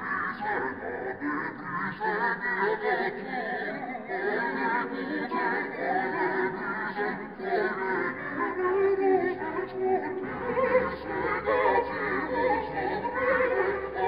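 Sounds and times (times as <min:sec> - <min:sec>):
electronic sung vocals: 0:00.0 - 0:14.0.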